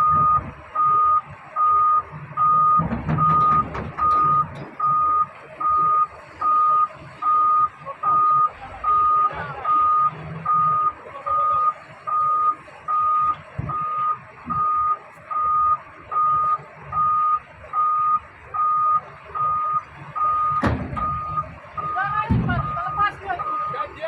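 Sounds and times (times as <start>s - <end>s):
diesel engine rumble: 0.0s - 24.0s
reversing alarm beeping: 0.0s - 24.0s.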